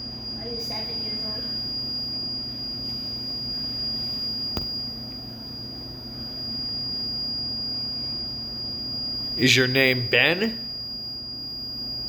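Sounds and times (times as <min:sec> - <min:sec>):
high-pitched electronic whine: 0:00.0 - 0:12.0
low electrical hum: 0:00.0 - 0:12.0.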